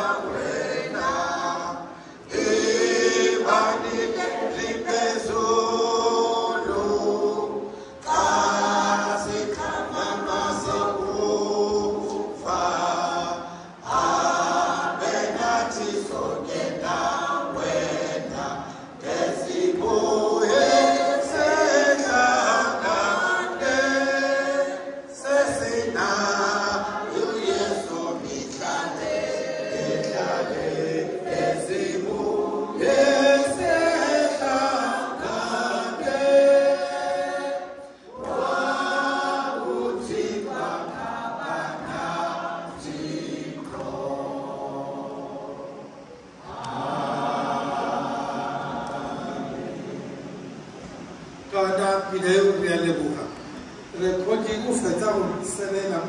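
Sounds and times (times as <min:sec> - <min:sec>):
women singing a hymn: 0:00.0 - 0:51.4.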